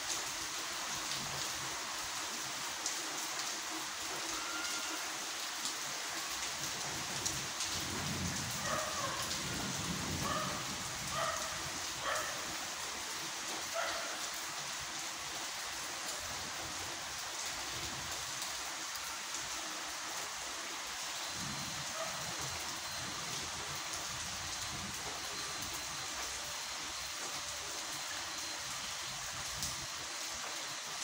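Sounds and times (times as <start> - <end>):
rain falling on street: 0.0 - 31.0.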